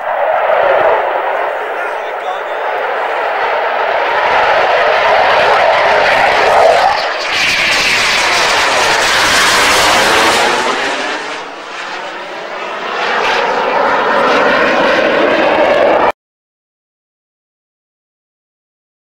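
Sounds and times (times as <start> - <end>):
fighter jet engines roaring: 0.0 - 16.1.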